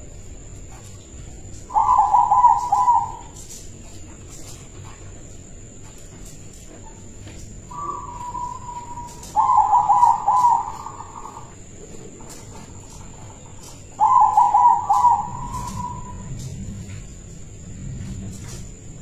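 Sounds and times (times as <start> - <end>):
dove cooing: 0.0 - 5.0, 7.2 - 17.4.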